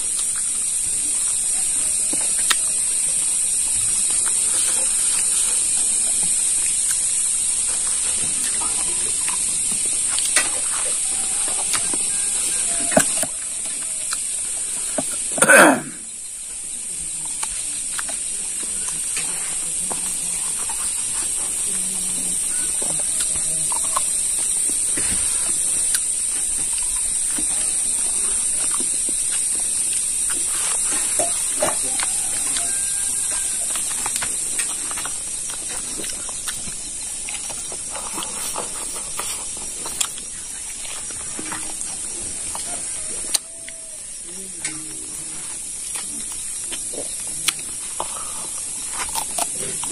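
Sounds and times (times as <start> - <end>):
high-pitched hiss: 0.0 - 49.9
man chewing meat: 0.0 - 49.9.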